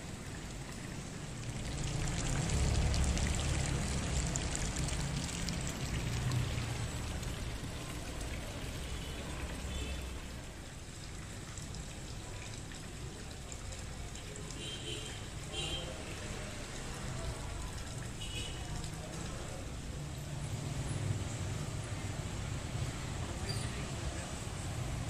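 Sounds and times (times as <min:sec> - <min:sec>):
falling water: 0:00.0 - 0:25.0.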